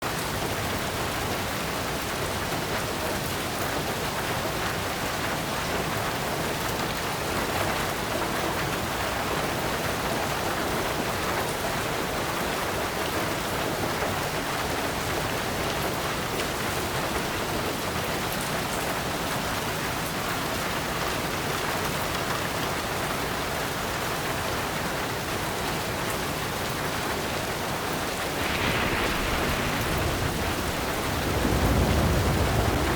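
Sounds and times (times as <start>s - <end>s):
heavy rain on a tin roof: 0.0s - 32.9s.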